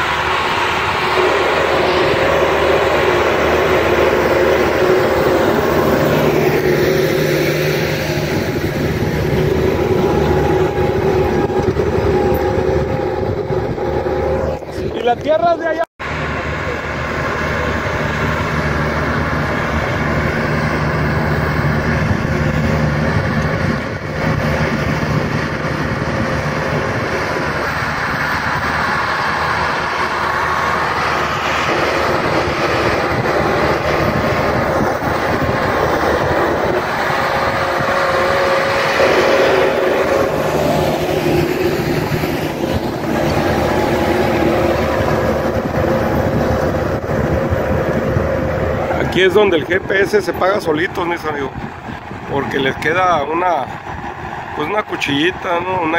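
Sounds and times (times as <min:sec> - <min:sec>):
disc harrow working dry soil: 0:00.0 - 0:55.9
tractor engine under load: 0:00.0 - 0:55.9.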